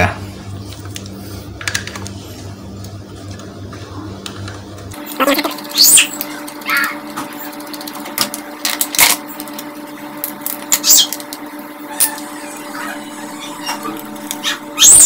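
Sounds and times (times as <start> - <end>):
low hum: 0.1 - 15.0.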